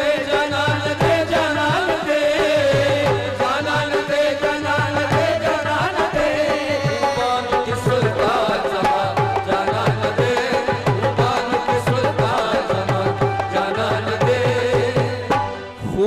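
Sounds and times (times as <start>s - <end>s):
tabla playing rhythm: 0.0s - 16.0s.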